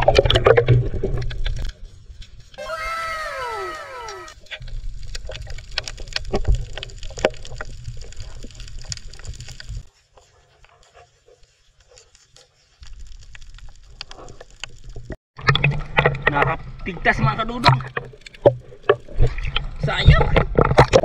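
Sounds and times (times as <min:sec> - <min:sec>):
underwater clicks and crackles: 0:00.0 - 0:02.6, 0:04.3 - 0:21.0.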